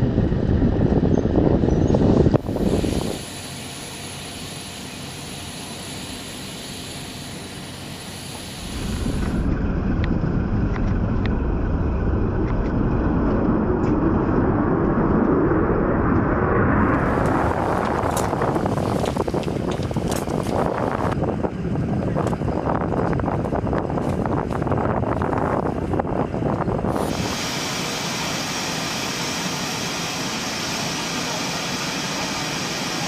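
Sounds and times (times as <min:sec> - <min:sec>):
aircraft engines rushing: 0:00.0 - 0:33.0.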